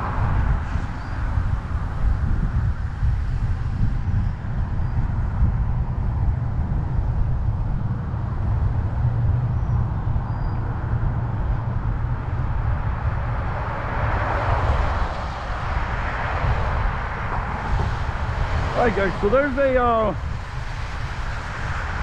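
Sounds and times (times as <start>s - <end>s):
passing car road noise: 0.0s - 22.0s
wind rumbling on microphone: 0.0s - 22.0s.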